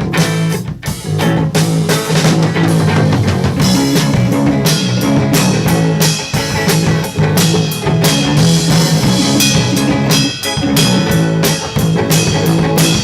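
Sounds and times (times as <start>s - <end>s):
bass guitar notes: 0.0s - 13.0s
drum kit steady beat: 0.0s - 13.0s
electric guitar: 0.0s - 13.0s.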